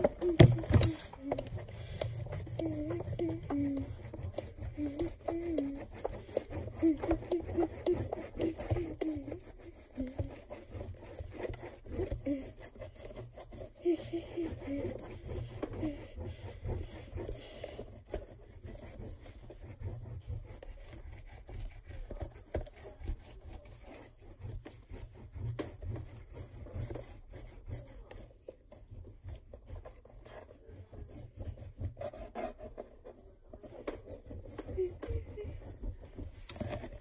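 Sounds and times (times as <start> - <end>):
hands scraping inside cardboard box: 0.0 - 37.0.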